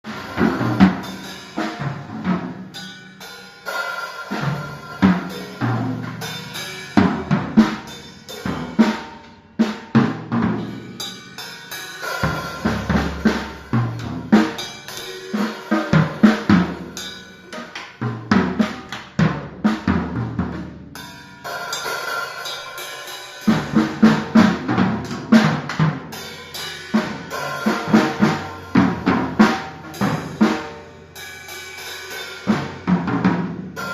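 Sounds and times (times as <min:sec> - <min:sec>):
drum kit playing: 0:00.0 - 0:33.9.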